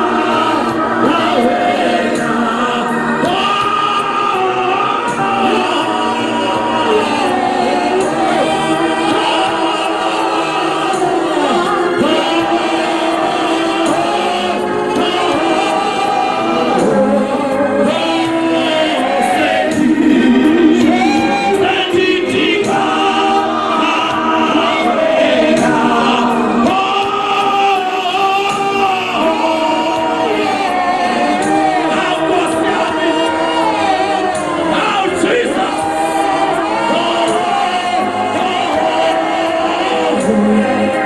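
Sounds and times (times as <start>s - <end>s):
congregation singing a hymn: 0.0s - 41.0s.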